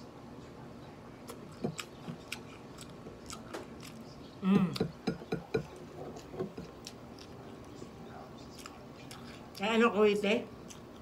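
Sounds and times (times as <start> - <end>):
chewing with wet clicks: 1.2 - 9.8, 10.6 - 11.0.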